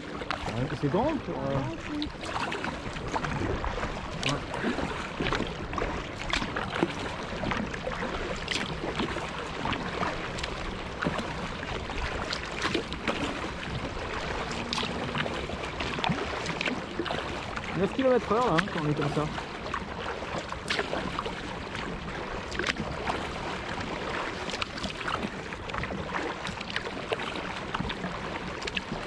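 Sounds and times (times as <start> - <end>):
paddle splashes: 0.0 - 29.0
water lapping around kayak: 0.0 - 29.0.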